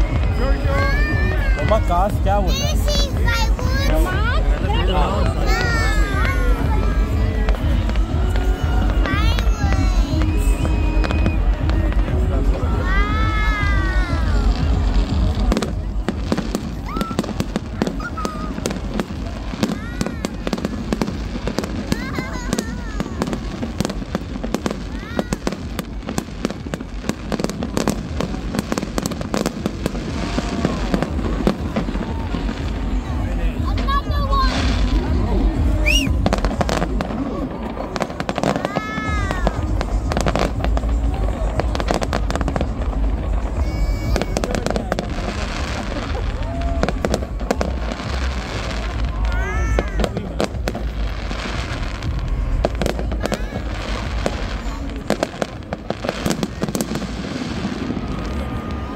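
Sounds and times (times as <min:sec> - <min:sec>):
continuous low rumble: 0:00.0 - 0:58.9
fireworks crackling and popping: 0:00.0 - 0:58.9.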